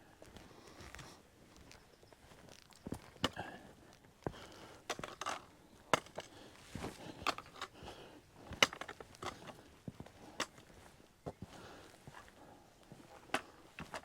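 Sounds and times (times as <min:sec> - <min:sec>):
footsteps walking: 0:00.2 - 0:14.0.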